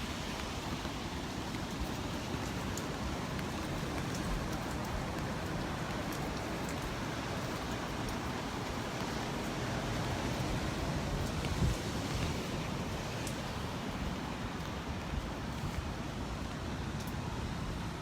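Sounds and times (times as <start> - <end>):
raindrops ticking nearby: 0.0 - 18.0
steady rain falling: 0.0 - 18.0.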